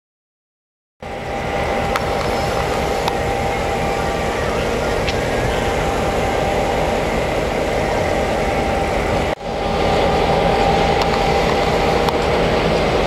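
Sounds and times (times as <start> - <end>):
diesel locomotive running: 1.0 - 13.0.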